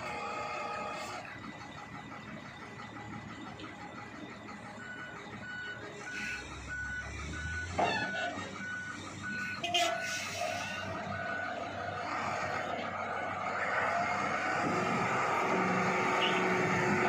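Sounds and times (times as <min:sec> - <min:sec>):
regular beeping alarm: 0:00.0 - 0:17.0
wheel loader diesel engine: 0:00.0 - 0:17.0.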